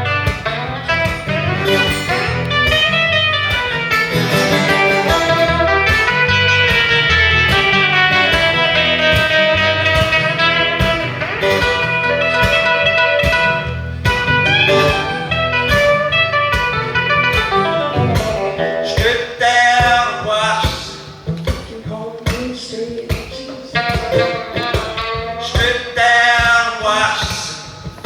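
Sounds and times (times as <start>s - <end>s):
lead guitar: 0.0s - 28.0s
live blues band playing: 0.0s - 28.0s.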